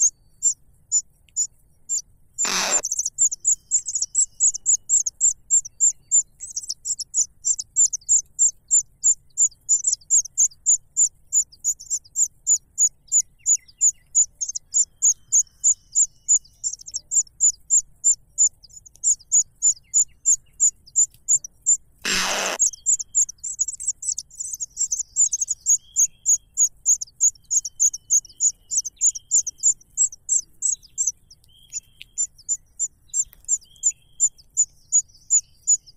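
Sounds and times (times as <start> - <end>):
nestling birds cheeping: 0.0 - 35.9.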